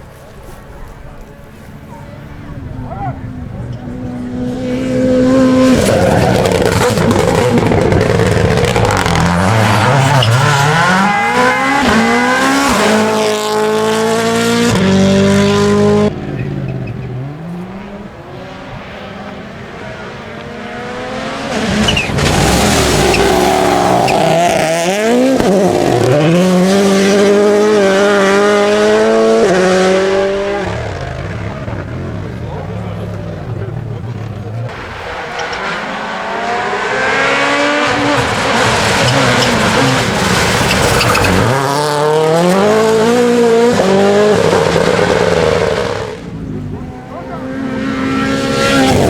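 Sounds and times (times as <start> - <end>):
rally car engines accelerating: 0.3 - 49.0.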